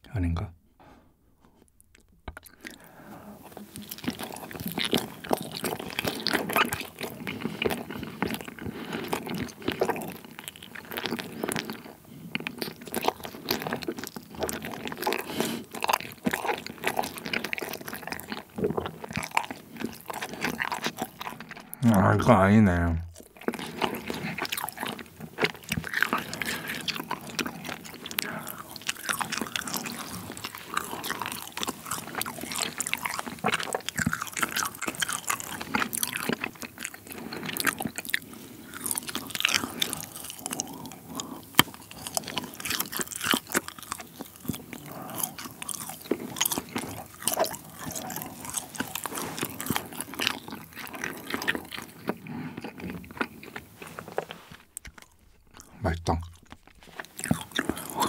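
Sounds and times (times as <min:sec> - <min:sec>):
chewing with short clicks: 0:03.4 - 0:21.8, 0:23.1 - 0:58.0.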